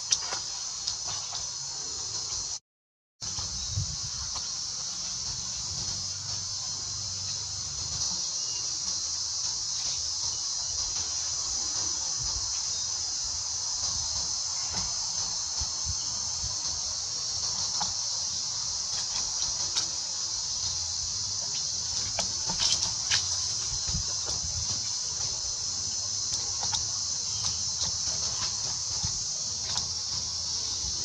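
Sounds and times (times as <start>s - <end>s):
insects droning: 0.0s - 2.6s, 3.2s - 31.0s.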